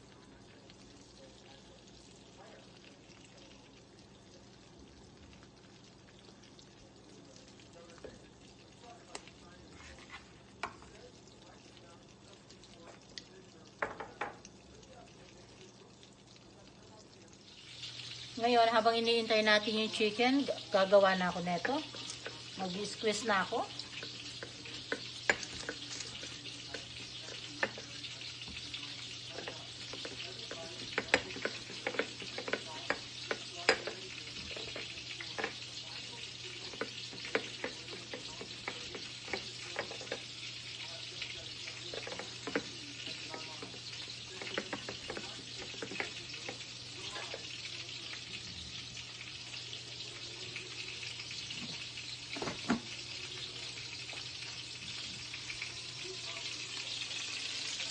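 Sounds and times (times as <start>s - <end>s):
chicken sizzling in a pan: 0.0s - 57.9s.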